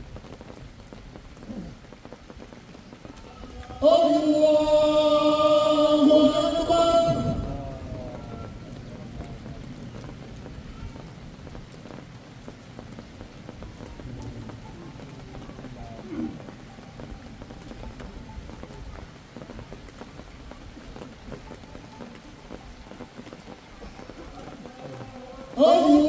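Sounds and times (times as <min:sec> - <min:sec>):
rain pattering on umbrellas: 0:00.0 - 0:26.0.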